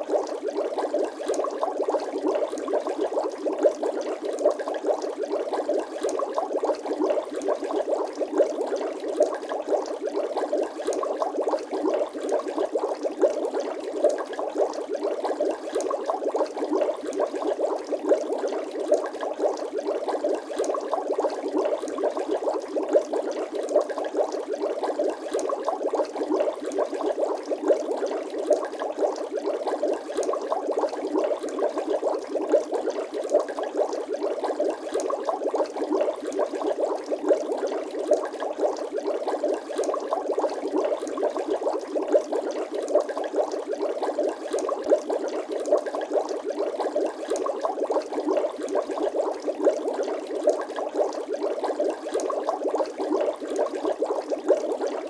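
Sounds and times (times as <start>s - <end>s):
water bubbling and gurgling: 0.0s - 55.0s.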